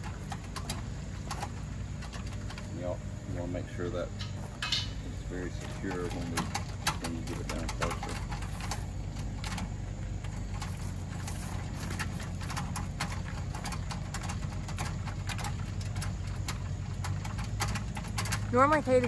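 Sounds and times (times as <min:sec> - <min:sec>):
crank and gears clicking: 0:00.0 - 0:19.0
steady low hum: 0:00.0 - 0:19.0.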